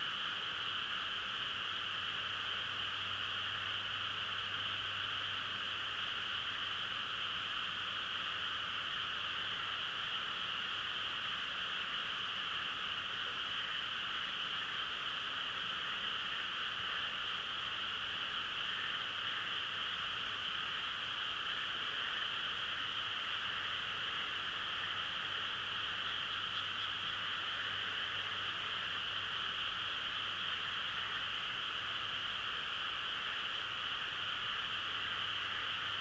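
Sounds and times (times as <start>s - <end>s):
chorus of frogs calling: 0.0s - 36.0s.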